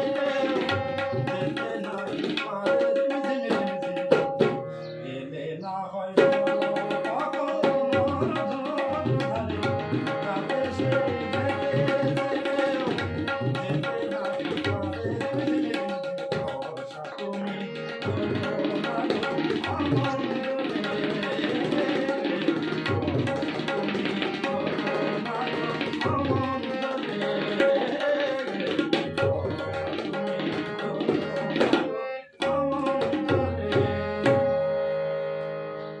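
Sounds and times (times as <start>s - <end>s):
harmonium reed tone: 0.0s - 1.8s, 3.4s - 5.6s, 6.2s - 16.6s, 17.2s - 36.0s.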